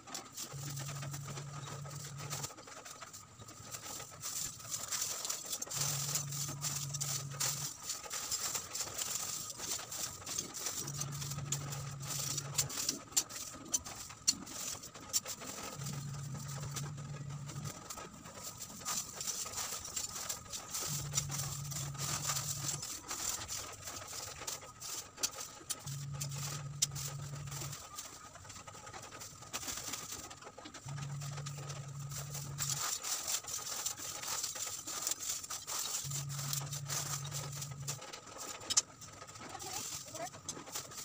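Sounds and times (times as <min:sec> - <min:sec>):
charcoal lumps clinking and scraping: 0:00.0 - 0:41.0
plastic bag crinkling: 0:00.0 - 0:41.0.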